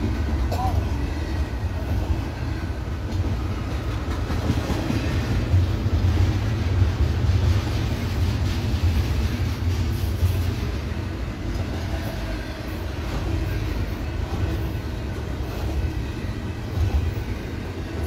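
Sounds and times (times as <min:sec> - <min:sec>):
freight train wheels rumbling on rail: 0:00.0 - 0:18.0.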